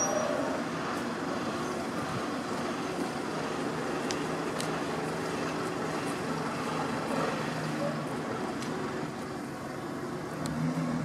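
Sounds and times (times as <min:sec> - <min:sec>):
bus engine running: 0:00.0 - 0:11.0
road and traffic noise: 0:00.0 - 0:11.0.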